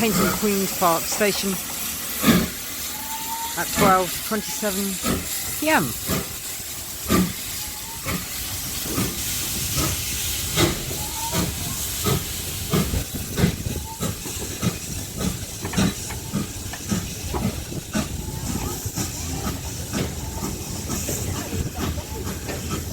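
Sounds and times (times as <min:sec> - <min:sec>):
steady steam hiss: 0:00.0 - 0:22.9
steam locomotive exhaust beats: 0:00.0 - 0:22.9.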